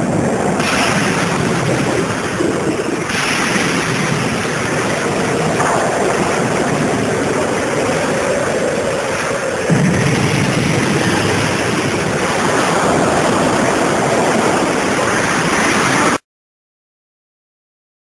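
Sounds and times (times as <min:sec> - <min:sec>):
loud steady rushing noise: 0:00.0 - 0:16.2.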